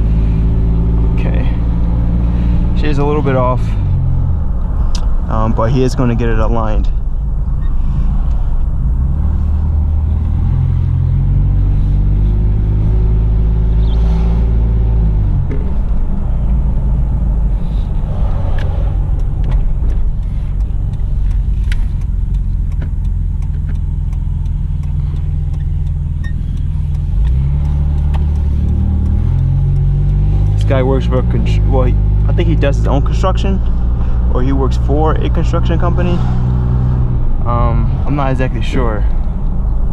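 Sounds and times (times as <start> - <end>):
car engine from inside cabin: 0.0 - 39.9.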